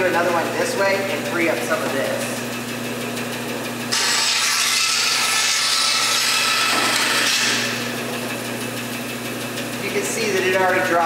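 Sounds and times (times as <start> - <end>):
band saw cutting wood: 0.0 - 11.0
band saw humming: 0.0 - 11.0.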